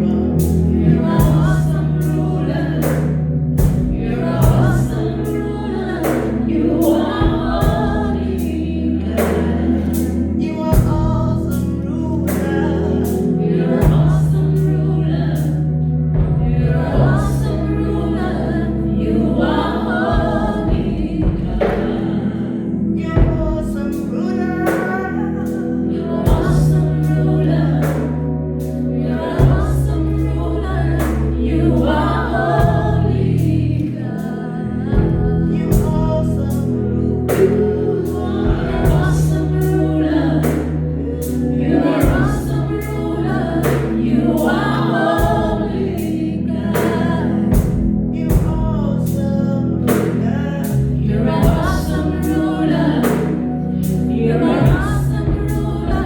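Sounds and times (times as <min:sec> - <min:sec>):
gospel choir singing: 0:00.0 - 0:56.0
low bass notes: 0:00.0 - 0:56.0
steady drum beat: 0:00.3 - 0:15.5, 0:16.1 - 0:17.7, 0:19.3 - 0:25.2, 0:26.2 - 0:28.2, 0:29.2 - 0:30.3, 0:30.9 - 0:34.2, 0:34.8 - 0:49.2, 0:49.8 - 0:56.0.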